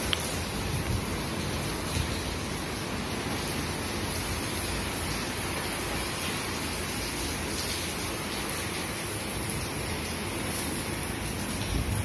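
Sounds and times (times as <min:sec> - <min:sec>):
rain falling on wet paving: 0:00.0 - 0:12.0.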